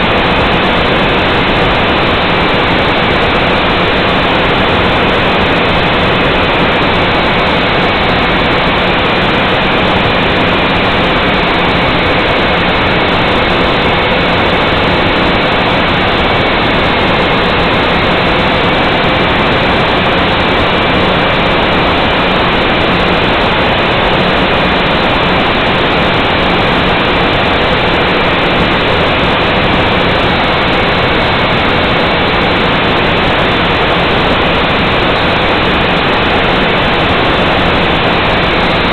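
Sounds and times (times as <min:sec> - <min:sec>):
drone propellers rushing: 0:00.0 - 0:38.9.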